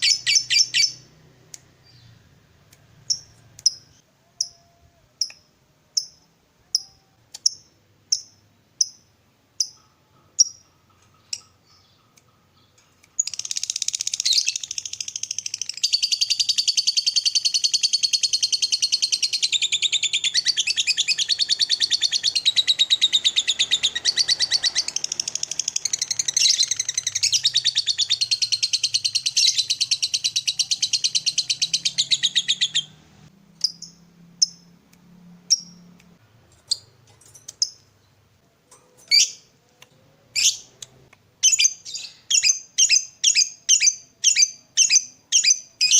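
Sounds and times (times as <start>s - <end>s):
lovebird chirping and trilling: 0.0s - 1.1s, 3.0s - 34.7s, 35.5s - 35.9s, 36.5s - 38.1s, 39.0s - 39.5s, 40.3s - 40.8s, 41.4s - 45.9s.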